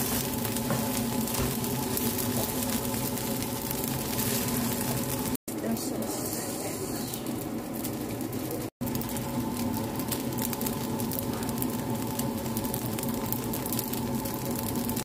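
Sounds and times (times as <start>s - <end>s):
rice sizzling in a frying pan: 0.0s - 15.0s.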